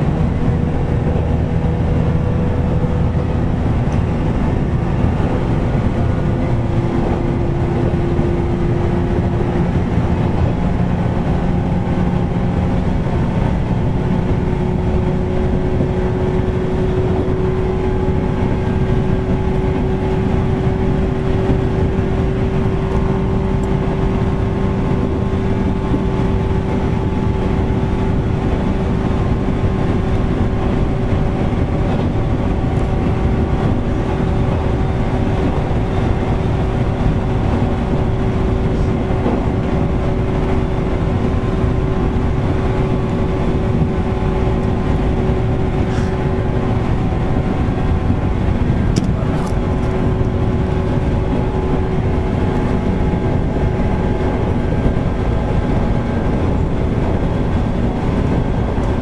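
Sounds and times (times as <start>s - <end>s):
loud air conditioning: 0.0s - 59.0s
steady hum: 0.0s - 59.0s
train wheels rumbling on rail: 0.0s - 59.0s.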